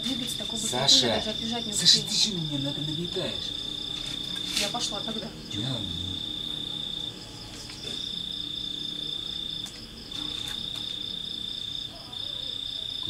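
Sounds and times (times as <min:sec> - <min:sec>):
faint pulsing insect chirp: 0:00.0 - 0:13.0
insect trilling: 0:00.0 - 0:13.0.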